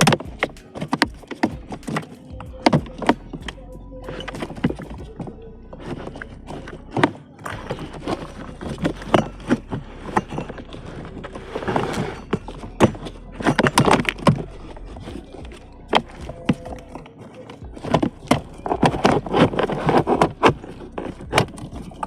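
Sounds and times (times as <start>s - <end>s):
scraping: 0.0s - 22.0s
tools and parts knocking: 0.0s - 22.0s.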